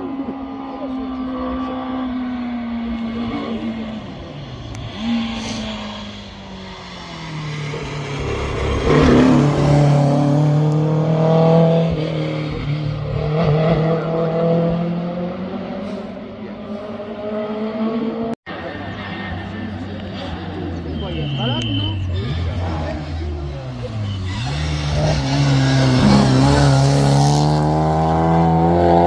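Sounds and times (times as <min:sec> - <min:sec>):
racing car engines passing by: 0:00.0 - 0:29.0.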